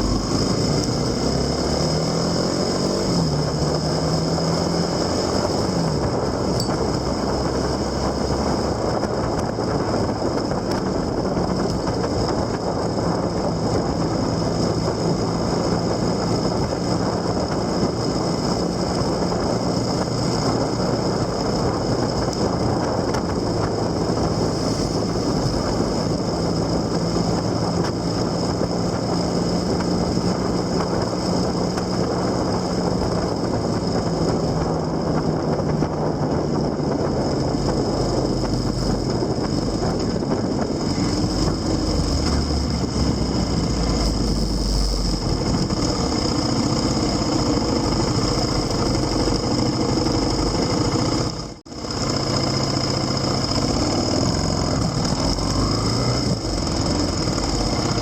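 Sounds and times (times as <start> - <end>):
road noise: 0.0 - 58.0
vehicle engine hum: 0.0 - 58.0
wind noise: 0.0 - 58.0.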